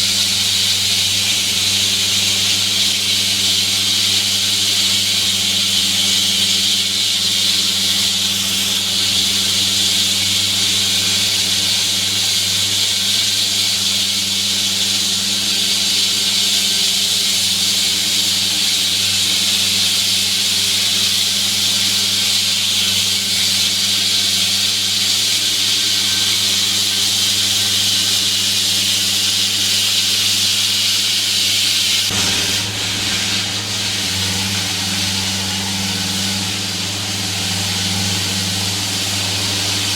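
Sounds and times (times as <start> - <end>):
concrete saw engine droning: 0.0 - 39.9
saw blade hissing in concrete: 0.0 - 39.9.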